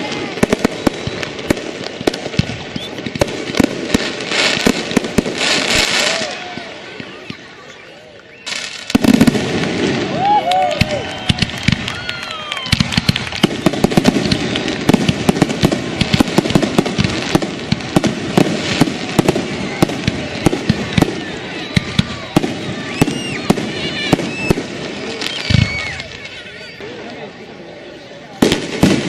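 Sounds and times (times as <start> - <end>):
fireworks whistling: 0.0 - 27.1, 28.3 - 29.0
fireworks cracking and banging: 0.0 - 27.3, 28.2 - 29.0.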